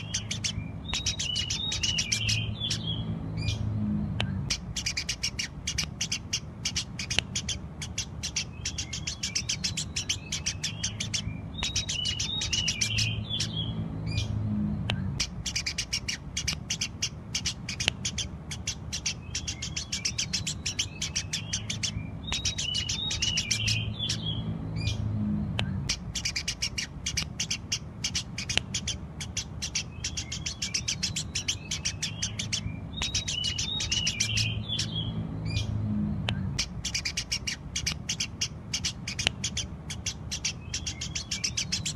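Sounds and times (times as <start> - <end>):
sparrows chirping: 0.0 - 41.9
steady low hum: 0.0 - 41.9.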